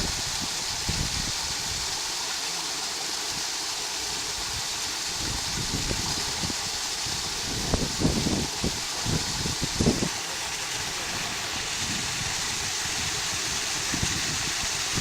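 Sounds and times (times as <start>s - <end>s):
waterfall falling into pool: 0.0s - 15.0s.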